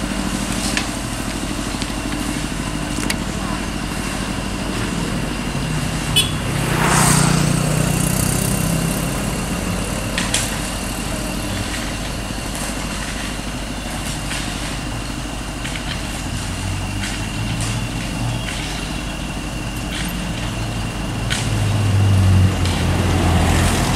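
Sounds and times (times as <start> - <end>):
diesel truck engine running: 0.0 - 23.9.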